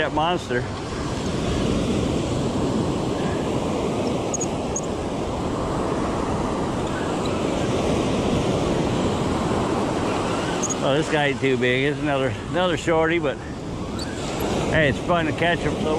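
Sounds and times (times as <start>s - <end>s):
ocean surf washing ashore: 0.0s - 15.9s
wind on microphone: 0.0s - 15.9s.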